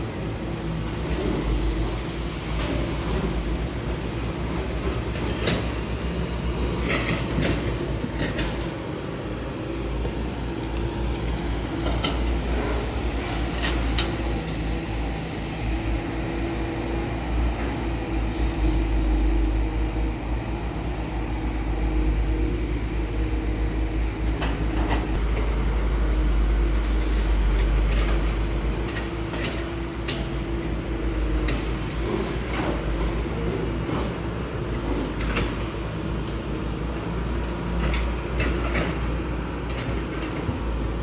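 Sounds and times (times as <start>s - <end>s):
diesel machinery engine rumbling: 0.0s - 41.0s.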